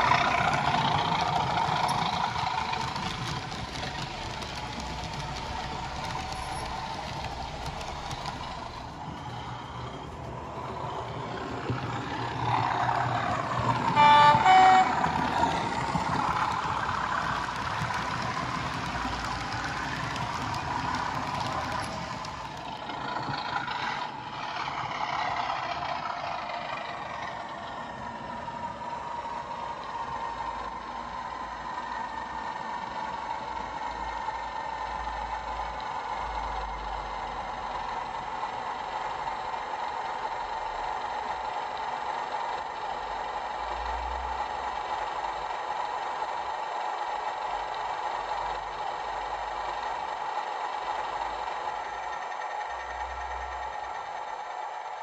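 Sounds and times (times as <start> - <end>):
diesel engine sound from small speaker: 0.0 - 55.0.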